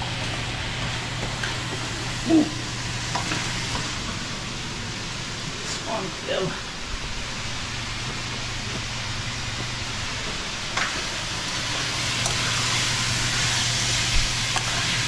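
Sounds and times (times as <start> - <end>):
squash sizzling in frying pan: 0.0 - 15.0
steady low hum: 0.0 - 15.0.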